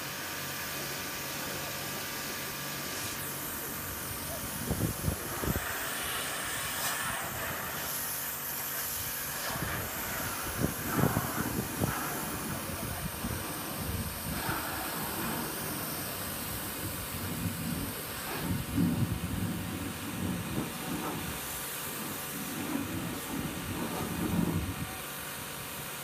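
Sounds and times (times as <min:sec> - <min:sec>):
pressure washer running: 0:00.0 - 0:26.0
water spray hissing on car: 0:00.0 - 0:26.0.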